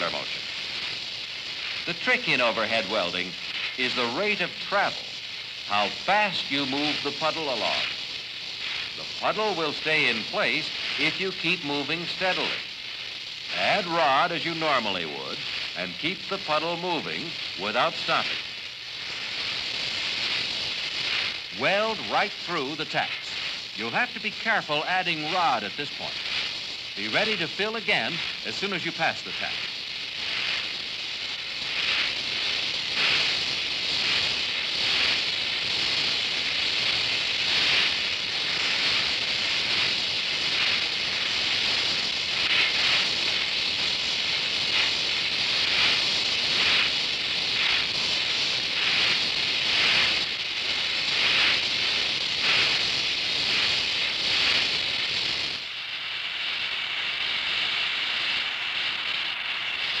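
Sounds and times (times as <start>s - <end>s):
crackles of molten steel: 0.0s - 60.0s
welding torch flame hissing: 0.0s - 60.0s.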